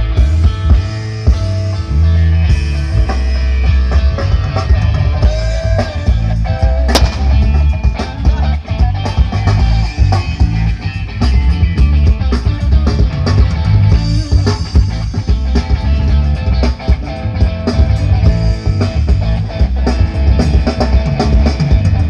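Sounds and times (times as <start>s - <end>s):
loud rock music: 0.0s - 22.0s
heavy sustained bass: 1.6s - 22.0s.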